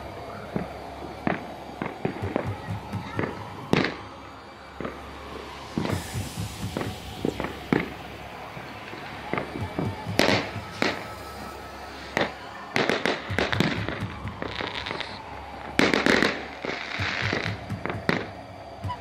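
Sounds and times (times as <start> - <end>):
fireworks bangs and pops: 0.5 - 4.0, 5.7 - 8.1, 8.8 - 19.0.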